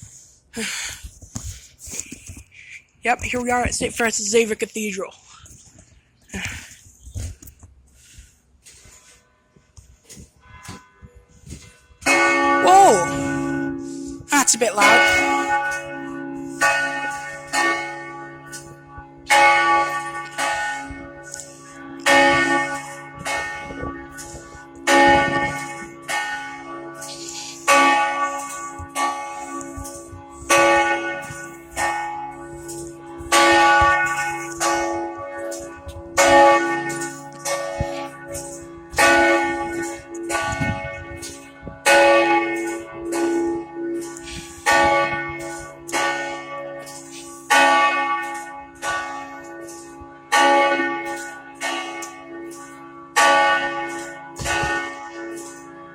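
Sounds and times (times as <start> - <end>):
church bells ringing: 8.8 - 55.9.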